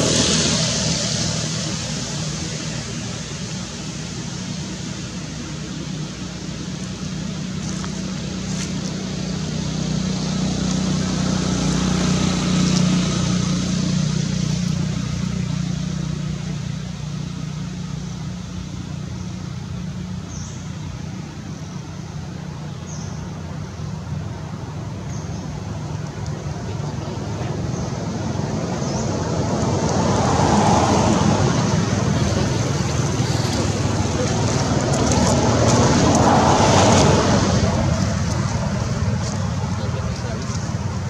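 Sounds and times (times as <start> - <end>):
motor engine humming: 0.0 - 41.0.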